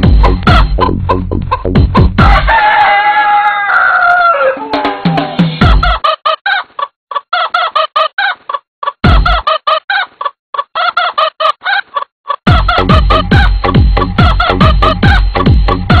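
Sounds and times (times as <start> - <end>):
cartoon chicken clucking: 0.2 - 2.8, 3.4 - 16.0.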